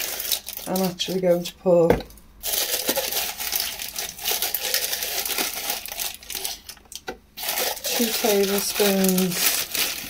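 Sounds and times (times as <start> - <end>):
packet rustling and crackling: 0.0 - 1.5, 2.4 - 10.0.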